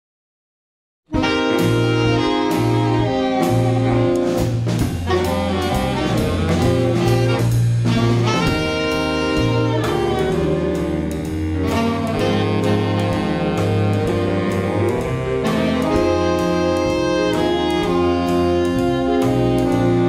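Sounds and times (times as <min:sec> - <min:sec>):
drum kit and cymbals: 0:01.1 - 0:20.0
electric bass: 0:01.1 - 0:20.0
saxophone section playing: 0:01.1 - 0:20.0.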